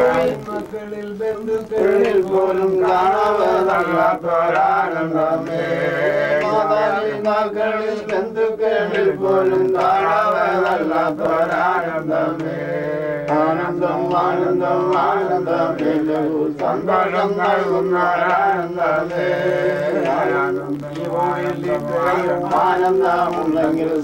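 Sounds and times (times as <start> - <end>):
group singing devotional song: 0.0 - 24.0
hand claps: 0.8 - 24.0.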